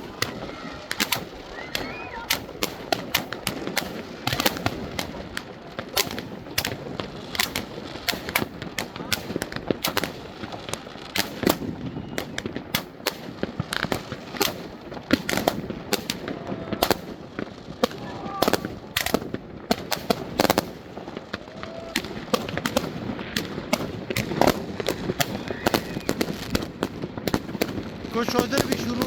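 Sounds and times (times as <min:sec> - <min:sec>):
crowd voices: 0:00.0 - 0:12.7, 0:14.1 - 0:29.0
fireworks banging and cracking: 0:00.0 - 0:29.0.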